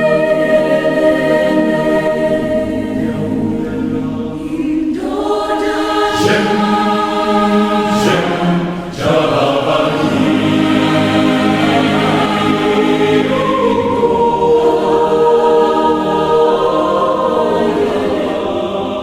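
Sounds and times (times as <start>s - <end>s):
choral singing: 0.0s - 19.0s.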